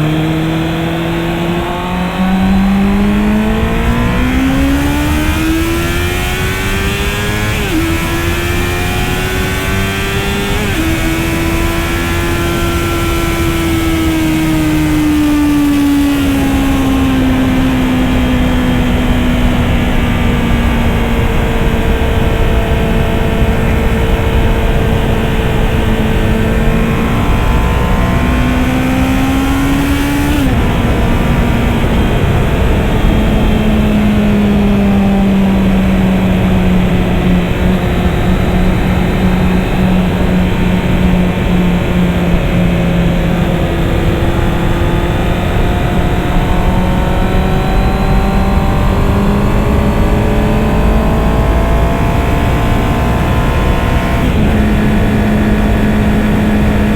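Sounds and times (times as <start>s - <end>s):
motorcycle engine accelerating: 0.0s - 56.9s
wind noise: 0.0s - 56.9s.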